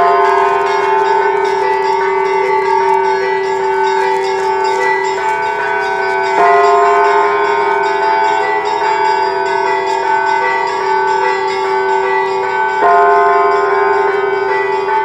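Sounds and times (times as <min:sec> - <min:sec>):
heavy bell stroke: 0:00.0 - 0:15.0
large bells humming: 0:00.0 - 0:15.0
small church bells ringing: 0:00.0 - 0:15.0.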